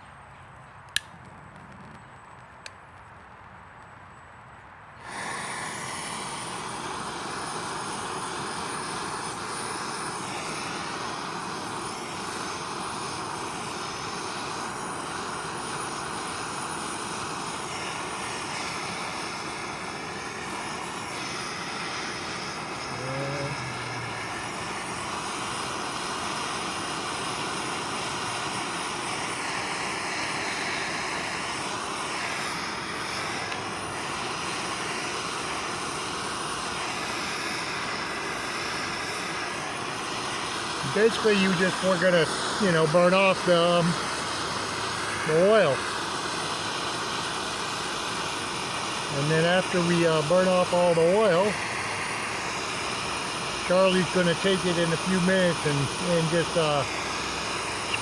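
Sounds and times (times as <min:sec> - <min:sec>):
gas torch flame roaring: 0:00.0 - 0:03.9, 0:04.6 - 0:58.0.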